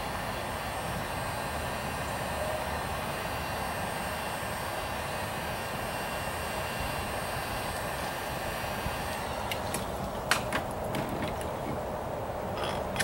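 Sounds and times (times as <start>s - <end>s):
heat gun fan blowing: 0.0s - 13.0s.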